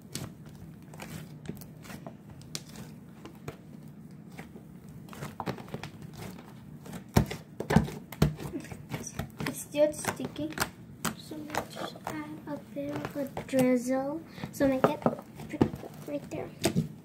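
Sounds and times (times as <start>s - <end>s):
slime crackling and squishing: 0.0s - 17.0s.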